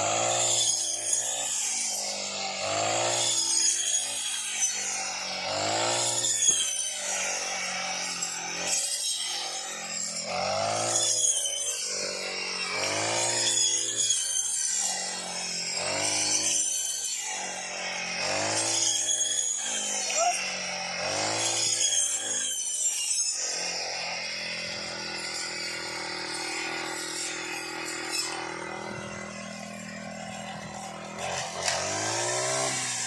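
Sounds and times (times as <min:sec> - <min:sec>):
brush cutter engine revving: 0:00.0 - 0:33.0.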